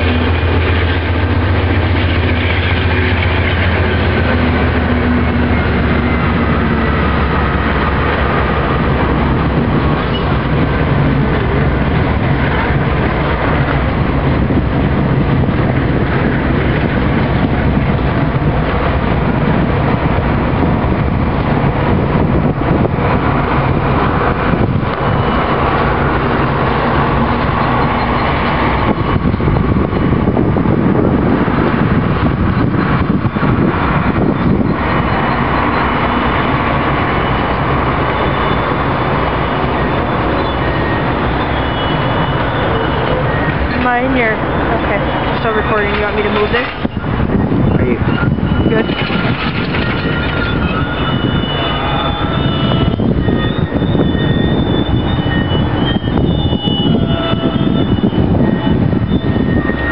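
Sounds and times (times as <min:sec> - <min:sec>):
diesel locomotive drone: 0:00.0 - 0:59.9
train wheels rumbling on rails: 0:00.0 - 0:59.9.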